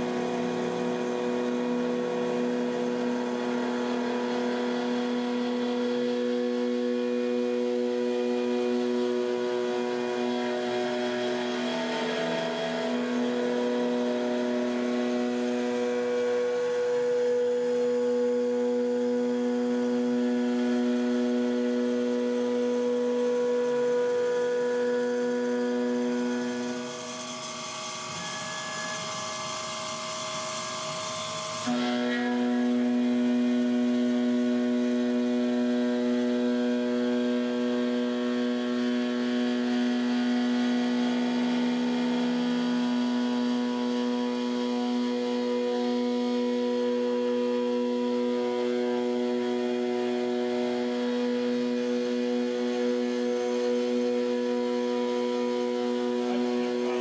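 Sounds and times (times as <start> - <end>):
milling machine cutting metal: 0.0 - 57.0.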